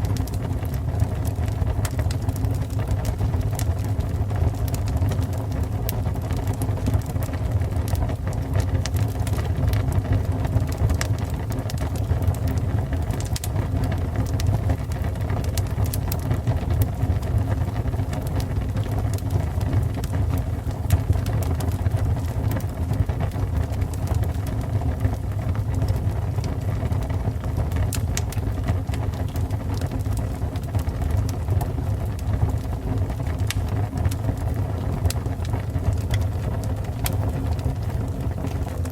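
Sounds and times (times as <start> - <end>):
fire crackles and pops: 0.0 - 38.9
fire rumbling: 0.0 - 38.9.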